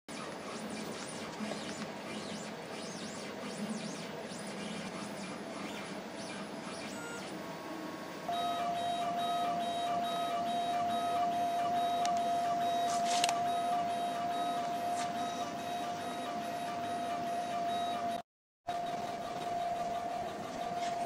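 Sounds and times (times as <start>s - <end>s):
laser cutter motors whining: 0.1s - 21.0s.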